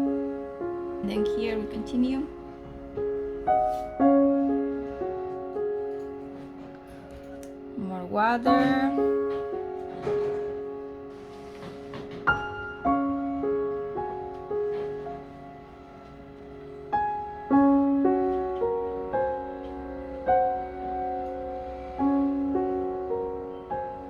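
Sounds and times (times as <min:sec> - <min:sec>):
slow solo piano: 0:00.0 - 0:24.0.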